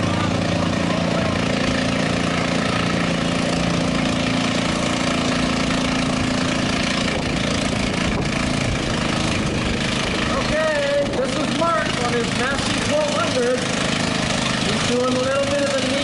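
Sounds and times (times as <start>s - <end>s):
lawn tractor engine running: 0.0s - 16.0s.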